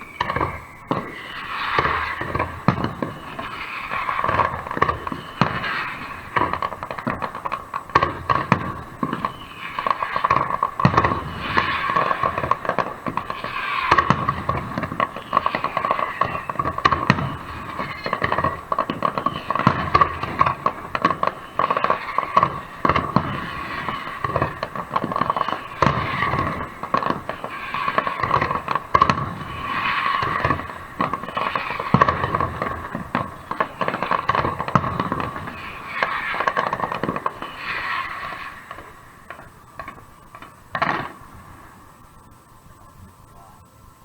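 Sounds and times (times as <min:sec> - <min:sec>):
fireworks bursting: 0:00.0 - 0:44.0
fireworks crackling: 0:00.0 - 0:44.0.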